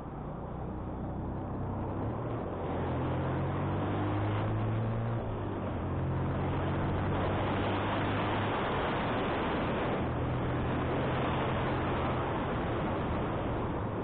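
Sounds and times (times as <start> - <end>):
motorcycle engine hum: 0.0 - 14.0
wind rushing over microphone: 0.8 - 14.0.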